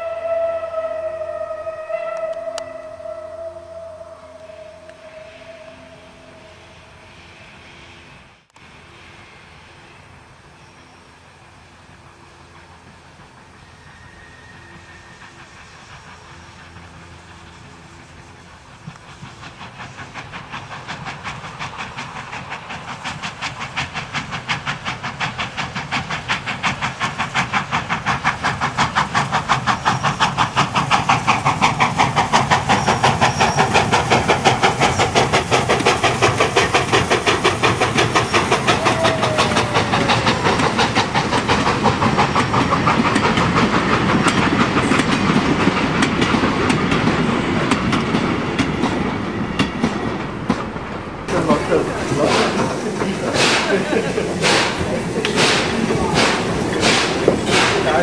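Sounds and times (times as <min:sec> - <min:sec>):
steam locomotive exhaust beating: 0:00.0 - 0:58.0
train wheels clicking over rails: 0:11.0 - 0:58.0.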